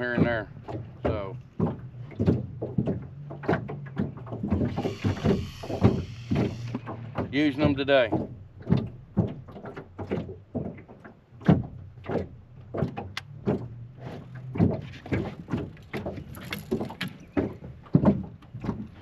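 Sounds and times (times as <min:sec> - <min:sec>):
fishing gear knocking and rattling: 0:00.0 - 0:19.0.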